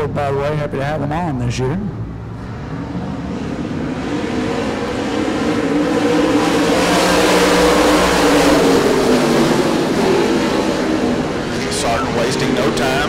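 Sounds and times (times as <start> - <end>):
race car engines roaring: 0.0 - 13.0.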